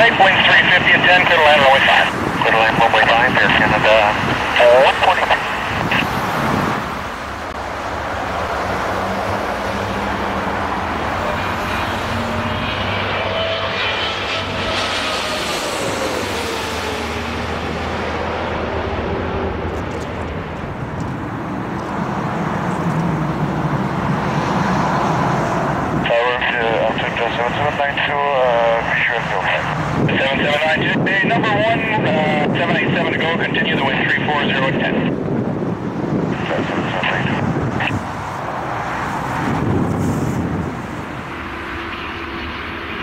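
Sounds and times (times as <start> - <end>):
jet airliner passing overhead: 0.0 - 43.0.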